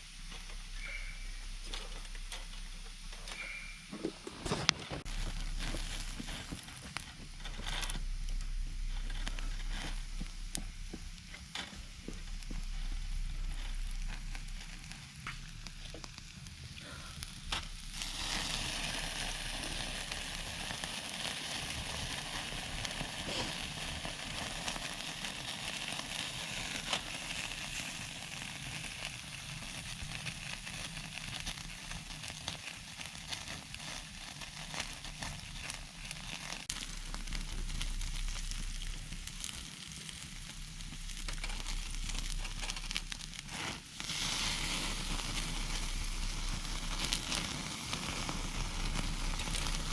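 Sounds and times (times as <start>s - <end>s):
campfire crackling and popping: 0.0s - 49.9s
steady hiss: 0.0s - 49.9s.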